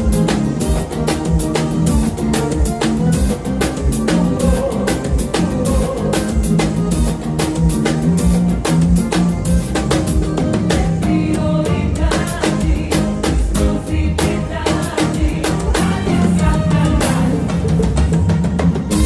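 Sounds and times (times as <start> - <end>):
band playing a song: 0.0 - 19.0
bass line: 0.0 - 19.0
drum kit groove: 0.0 - 19.0.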